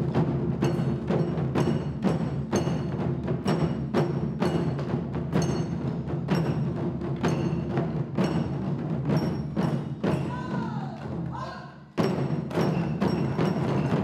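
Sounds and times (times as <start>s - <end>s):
taiko drum ensemble playing: 0.0s - 14.0s.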